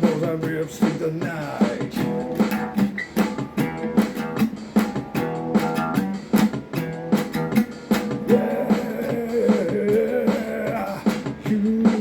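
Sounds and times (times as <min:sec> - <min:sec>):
guitar strummed: 0:00.0 - 0:12.0.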